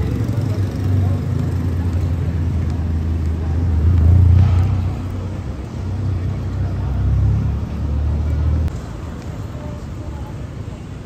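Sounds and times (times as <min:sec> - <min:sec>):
car engine rumbling: 0:00.0 - 0:09.2.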